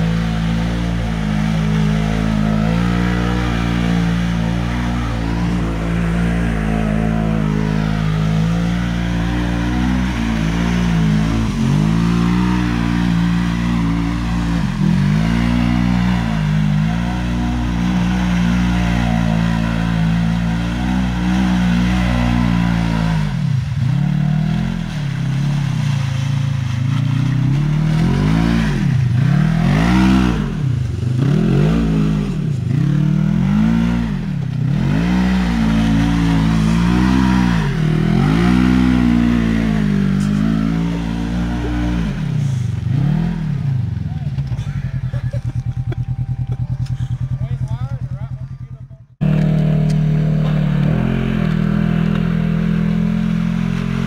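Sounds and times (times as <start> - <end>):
utv engine revving: 0.0 - 54.0.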